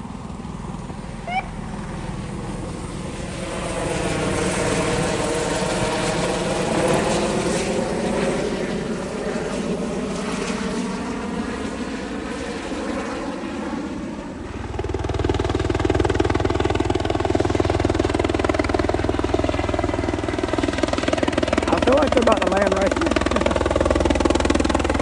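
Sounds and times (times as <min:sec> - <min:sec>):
helicopter engine and rotor: 0:00.0 - 0:25.0.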